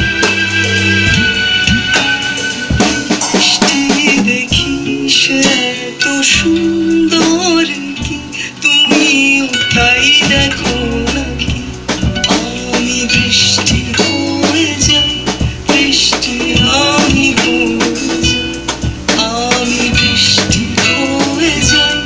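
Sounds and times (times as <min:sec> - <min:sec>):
drum kit being played: 0:00.0 - 0:22.0
song with guitar: 0:00.0 - 0:22.0.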